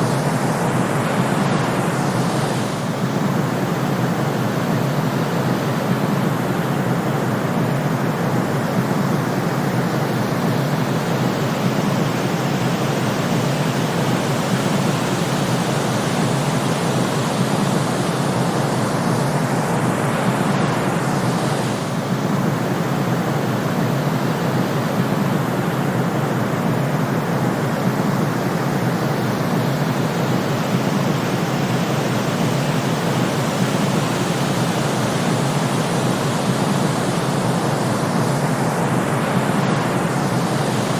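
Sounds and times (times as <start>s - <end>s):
steady white noise: 0.0s - 40.9s.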